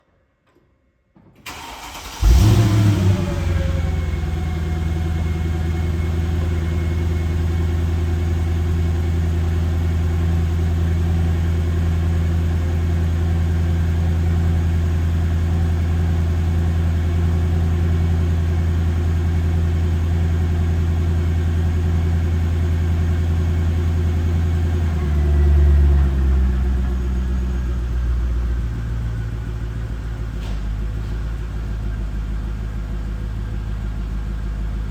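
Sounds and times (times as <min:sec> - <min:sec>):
car engine starting and idling: 0:01.4 - 0:34.9.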